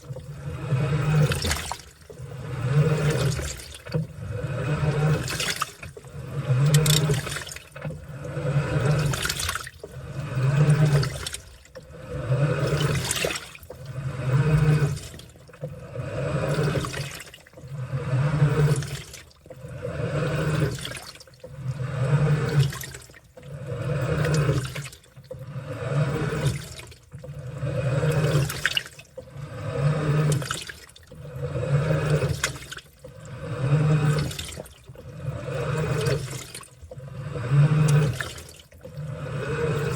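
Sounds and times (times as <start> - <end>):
washing machine motor hum: 0.0 - 39.9
water sloshing and churning: 0.0 - 39.9.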